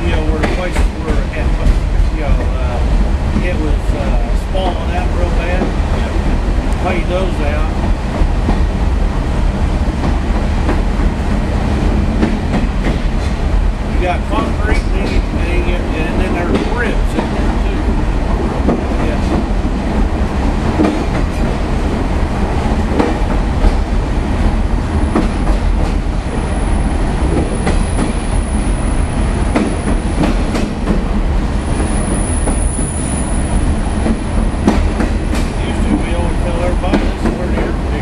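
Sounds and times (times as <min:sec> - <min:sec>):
train wheels clicking over joints: 0:00.0 - 0:38.0.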